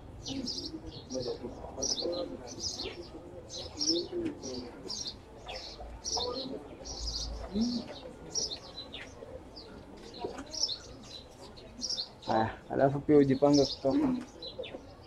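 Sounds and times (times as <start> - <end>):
murmur of distant voices: 0.0 - 15.0
small birds chirping: 0.0 - 15.0.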